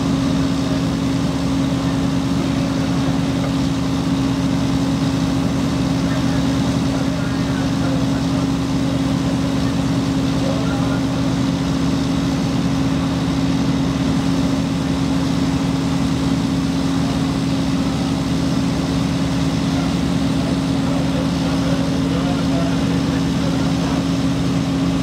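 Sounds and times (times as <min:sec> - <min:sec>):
truck engine droning: 0:00.0 - 0:25.0.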